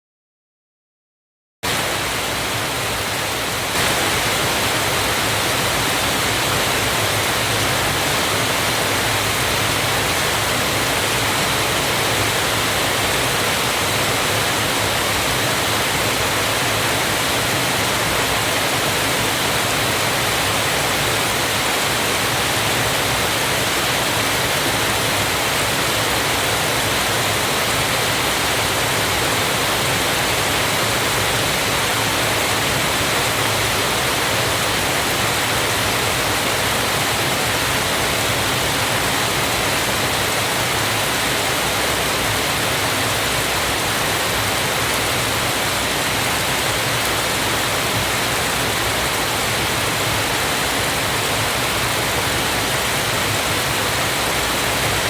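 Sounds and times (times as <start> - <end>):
waterfall rushing: 1.6 - 55.0.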